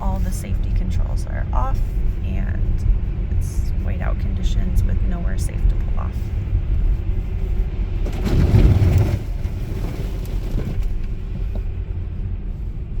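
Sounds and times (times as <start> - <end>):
road and tyre rumble from inside car: 0.0 - 13.0
rushing wind noise: 0.0 - 13.0.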